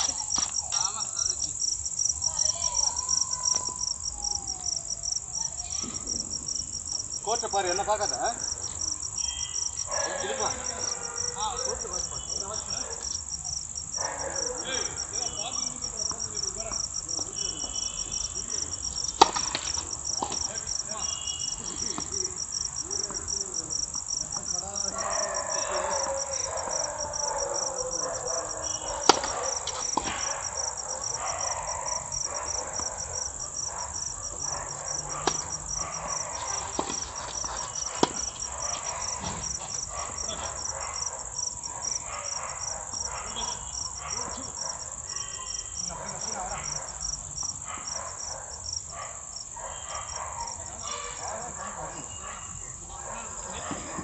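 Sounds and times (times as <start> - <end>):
crickets trilling: 0.0 - 53.7.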